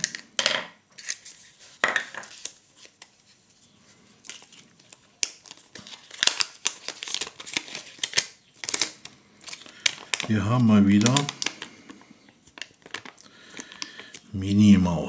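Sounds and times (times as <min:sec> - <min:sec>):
paper leaflet crinkling: 0:01.0 - 0:14.3.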